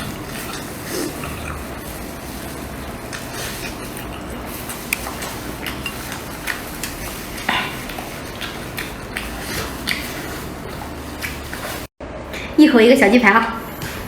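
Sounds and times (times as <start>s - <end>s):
metal utensil scraping a pan: 0.0s - 11.9s.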